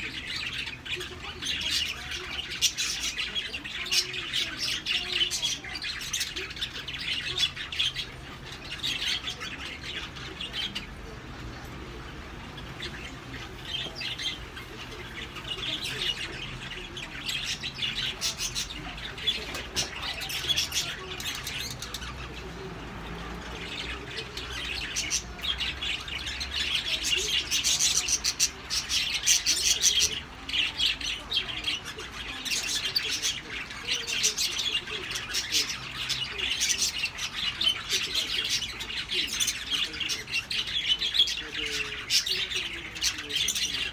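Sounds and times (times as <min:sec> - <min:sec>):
birds chirping and squawking: 0:00.0 - 0:43.9.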